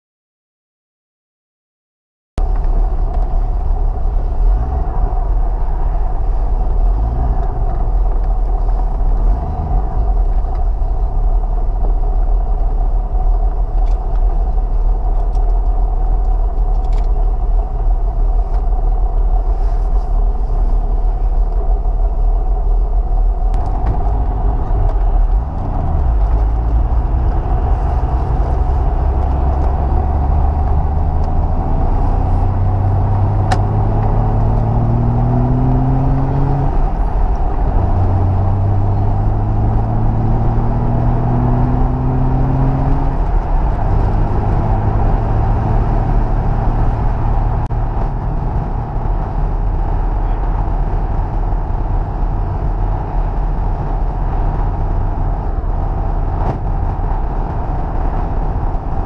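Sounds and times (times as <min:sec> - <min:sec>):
car engine driving off: 0:02.4 - 0:59.0
road noise: 0:02.4 - 0:59.0.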